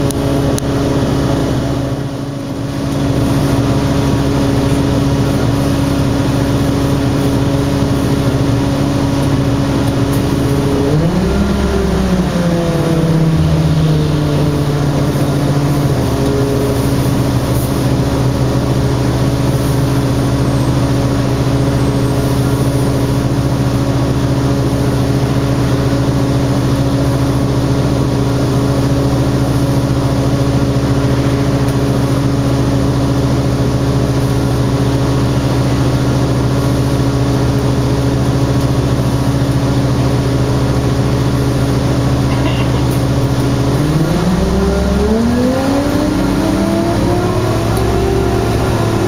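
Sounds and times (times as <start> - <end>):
bus engine droning: 0.0 - 49.0.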